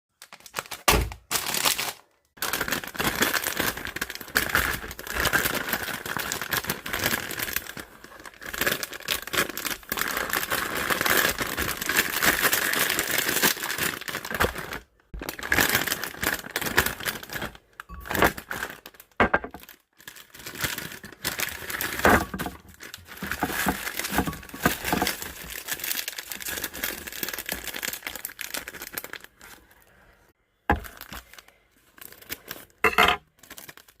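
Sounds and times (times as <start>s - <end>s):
plastic packaging crinkling: 0.1s - 30.1s, 30.7s - 34.0s.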